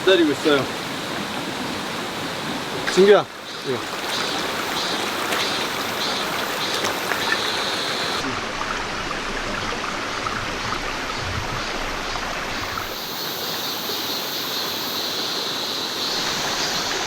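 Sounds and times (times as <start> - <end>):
stream rushing over rocks: 0.0 - 14.0, 16.0 - 17.0.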